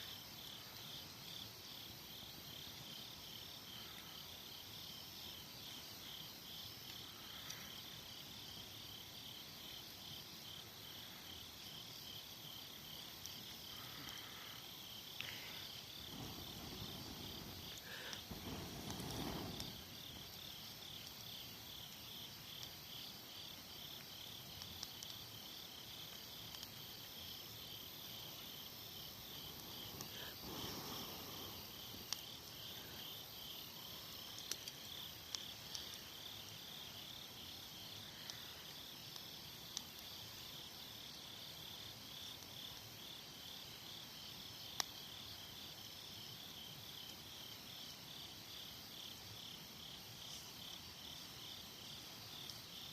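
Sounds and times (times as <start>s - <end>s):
insects chirping: 0.0s - 52.9s
wood fire crackling: 0.1s - 52.9s.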